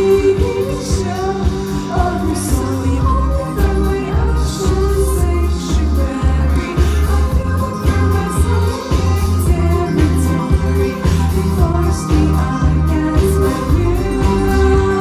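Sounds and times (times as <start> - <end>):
heavy bass line: 0.0 - 15.0
steady drum beat: 0.0 - 15.0
synth: 0.0 - 15.0
woman singing: 0.0 - 15.0.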